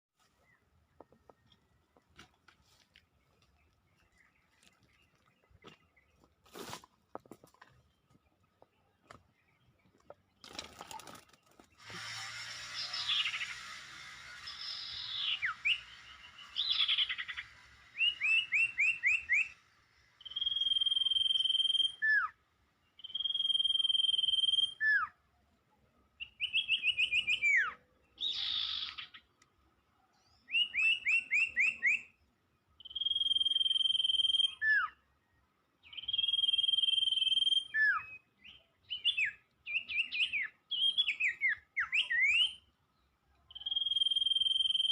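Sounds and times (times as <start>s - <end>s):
songbird song: 0.2s - 44.9s.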